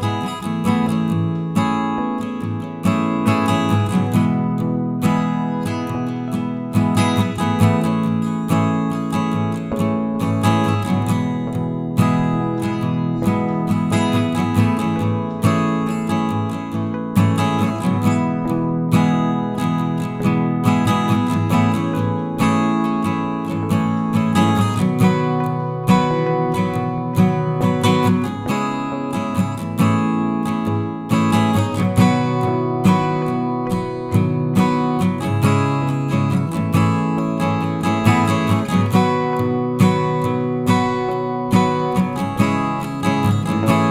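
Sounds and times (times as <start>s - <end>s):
strummed acoustic guitar: 0.0s - 43.9s.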